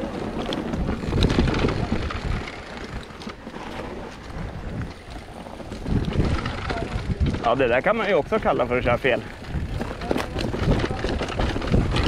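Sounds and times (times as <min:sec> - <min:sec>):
bike rolling over rough ground: 0:00.0 - 0:12.0
wind buffeting microphone: 0:00.0 - 0:12.0.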